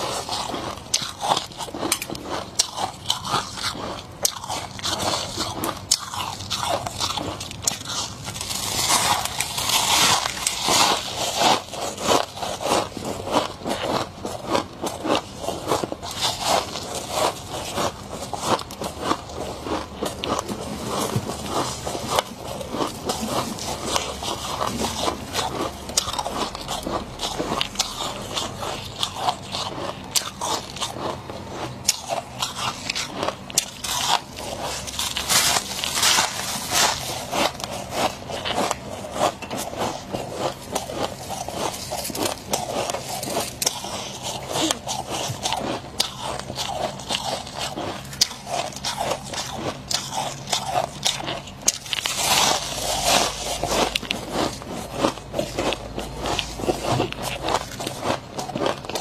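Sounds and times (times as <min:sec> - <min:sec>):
crunching frost being chewed: 0:00.0 - 0:59.0.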